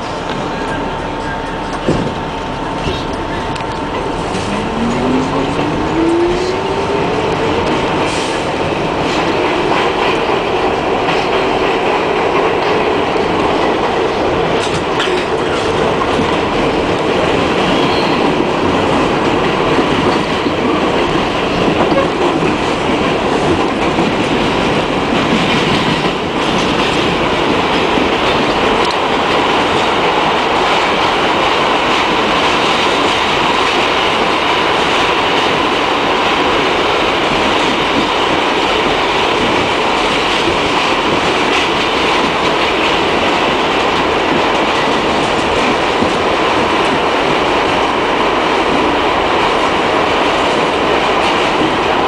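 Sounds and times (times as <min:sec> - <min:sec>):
subway train rumbling in tunnel: 0:00.0 - 0:52.0.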